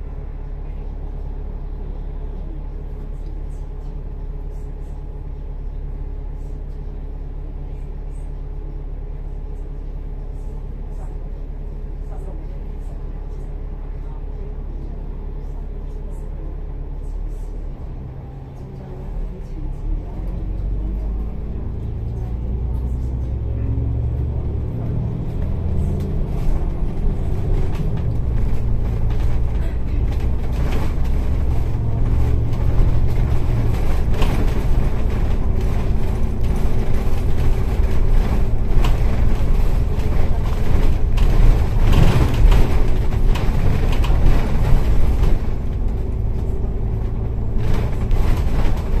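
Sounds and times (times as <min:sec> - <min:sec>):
bus engine drone: 0:00.0 - 0:49.0
road rumble and rattles: 0:00.0 - 0:49.0.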